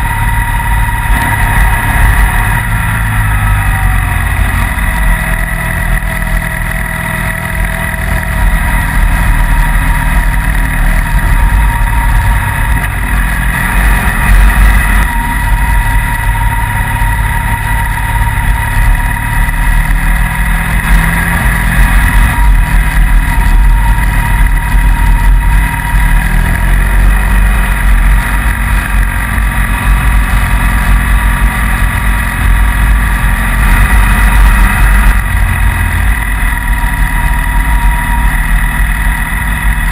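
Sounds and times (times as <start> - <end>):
constant whine: 0.0 - 39.9
motorcycle engine running: 0.0 - 39.9.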